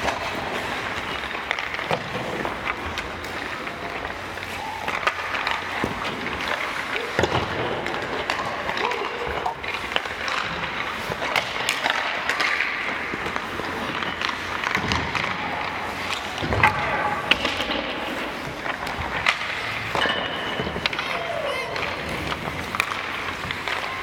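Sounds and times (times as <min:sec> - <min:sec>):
pucks knocking on boards: 0:00.0 - 0:24.0
skates scraping on ice: 0:00.0 - 0:24.0
sticks and pucks clacking: 0:00.0 - 0:24.0.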